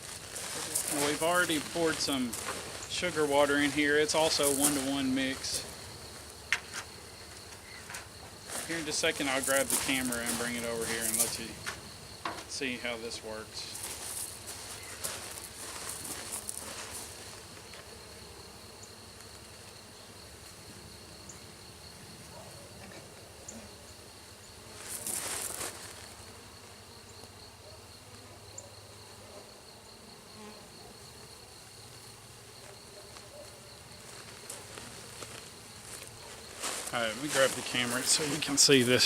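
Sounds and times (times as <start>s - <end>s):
honeybees buzzing: 0.0s - 39.0s.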